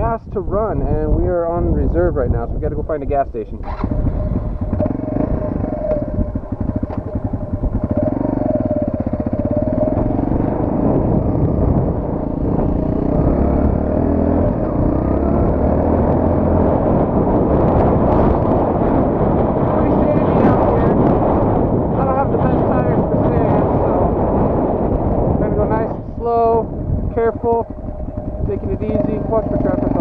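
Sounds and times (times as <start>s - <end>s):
wind buffeting microphone: 0.0s - 30.0s
motorcycle engine accelerating: 3.6s - 30.0s.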